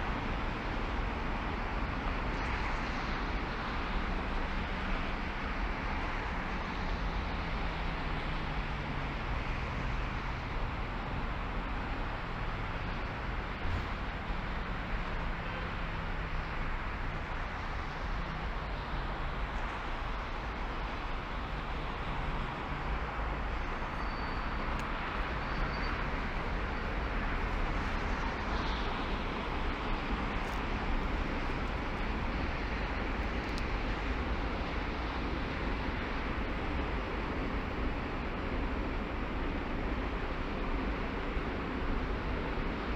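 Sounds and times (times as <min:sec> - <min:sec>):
car road noise: 0:00.0 - 0:42.9.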